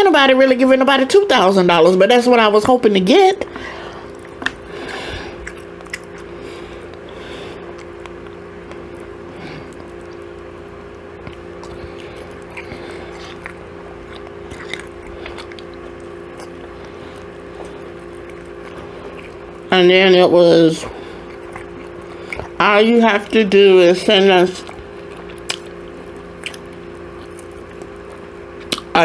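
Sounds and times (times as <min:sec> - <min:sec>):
steady low hum: 0:00.0 - 0:29.0
person chewing and crunching: 0:03.4 - 0:29.0.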